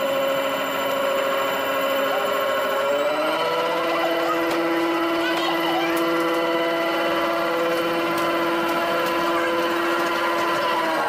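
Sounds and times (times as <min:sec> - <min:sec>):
miniature locomotive motor whine: 0:00.0 - 0:11.0.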